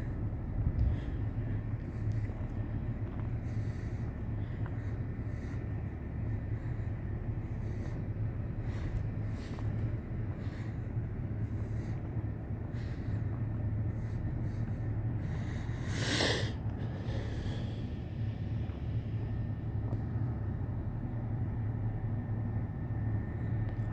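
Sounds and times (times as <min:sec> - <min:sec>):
distant freight train rumble: 0:00.0 - 0:23.9.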